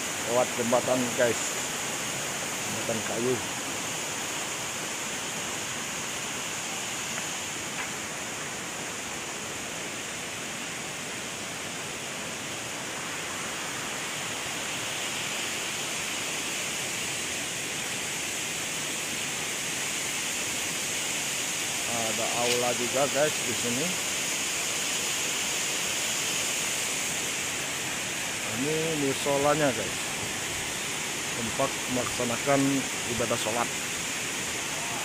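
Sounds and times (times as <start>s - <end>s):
waterfall and river rushing: 0.0s - 35.0s.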